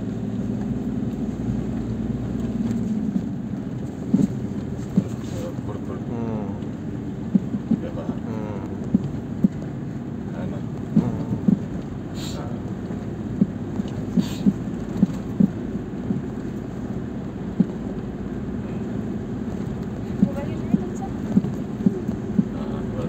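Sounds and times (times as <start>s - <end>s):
low cabin rumble: 0.0s - 23.0s.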